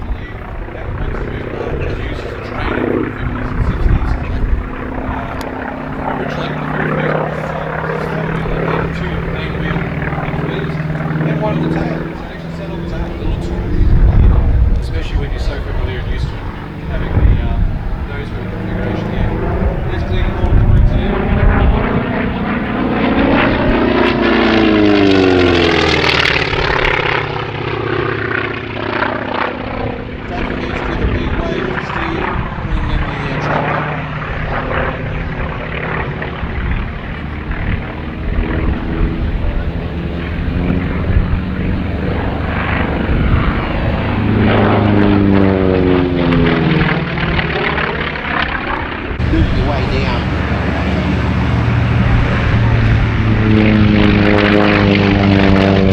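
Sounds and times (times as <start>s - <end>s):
propeller plane engine passing: 0.0s - 55.9s.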